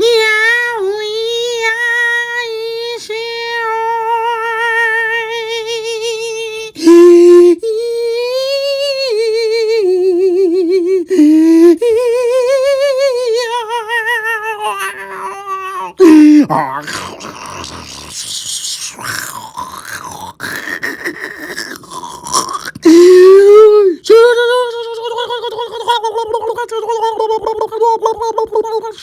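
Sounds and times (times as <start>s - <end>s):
high voice singing with vibrato: 0.0s - 29.0s.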